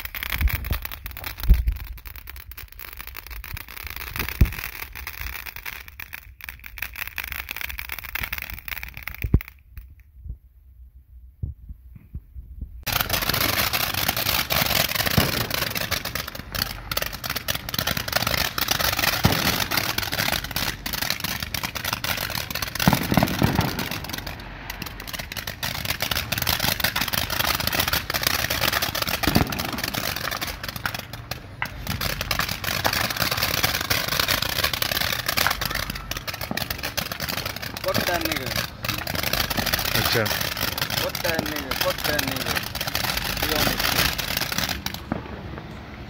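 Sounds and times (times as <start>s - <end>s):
firework fountain hissing and crackling: 0.0s - 10.1s, 12.8s - 46.0s.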